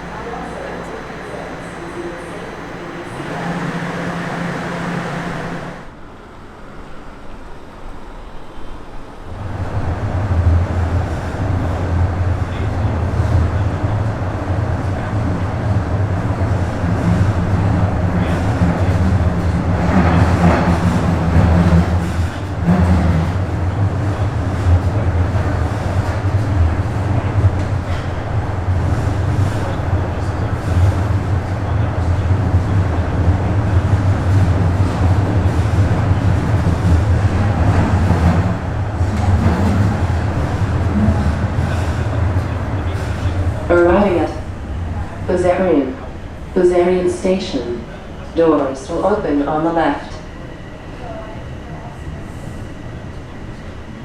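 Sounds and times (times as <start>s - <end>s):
subway train rumbling: 0.0s - 54.0s.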